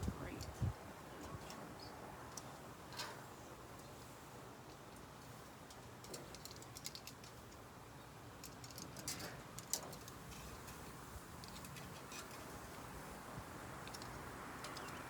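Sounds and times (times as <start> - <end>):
food crackling on a grill: 1.0 - 15.0.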